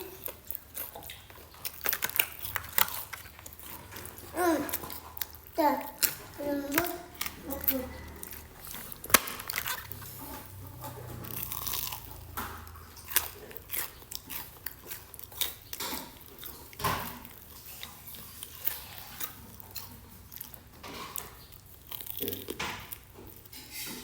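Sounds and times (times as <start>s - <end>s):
person chewing crunchy food: 0.0s - 23.8s.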